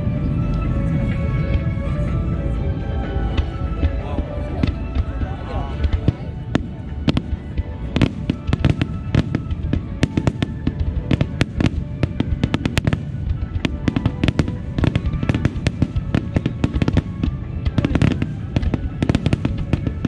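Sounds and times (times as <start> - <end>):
fireworks bursts and crackles: 0.0 - 20.0
music playing: 0.0 - 20.0.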